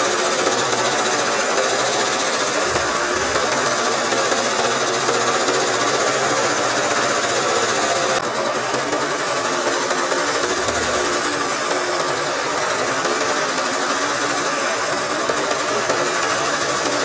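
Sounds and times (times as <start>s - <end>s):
sewing machine running fast: 0.0s - 17.0s.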